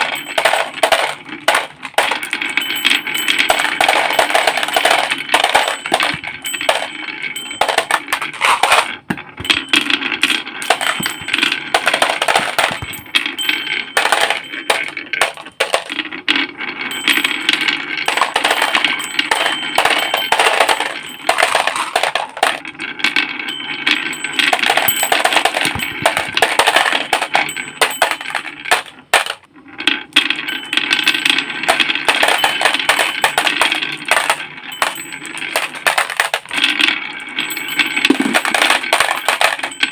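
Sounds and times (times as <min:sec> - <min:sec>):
toy cars clattering and clicking: 0:00.0 - 0:39.9.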